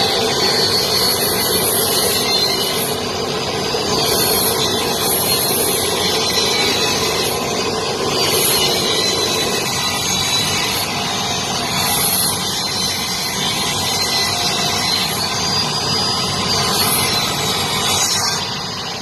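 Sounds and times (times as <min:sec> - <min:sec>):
table saw running: 0:00.0 - 0:19.0.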